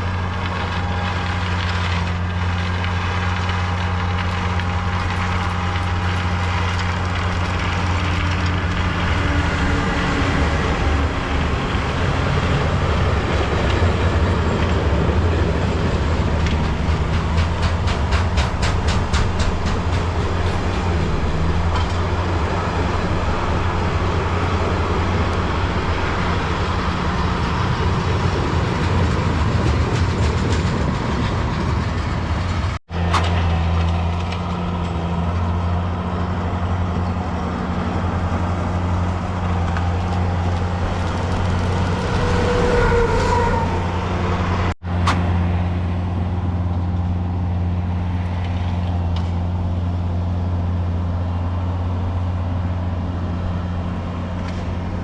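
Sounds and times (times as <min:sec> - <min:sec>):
train on rails: 0:00.0 - 0:55.0.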